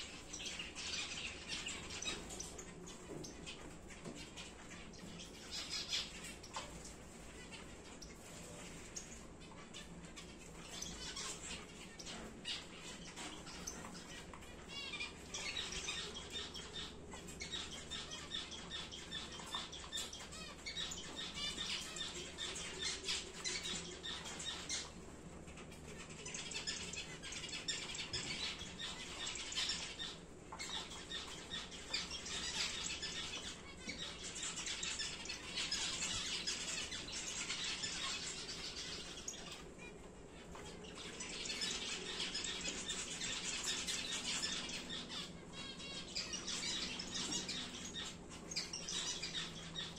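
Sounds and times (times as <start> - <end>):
finches chirping: 0.0 - 49.9.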